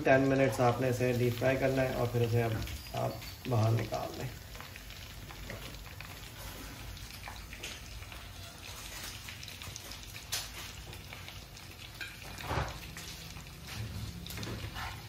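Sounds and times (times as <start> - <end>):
chicken deep-frying in hot oil: 0.0 - 15.0.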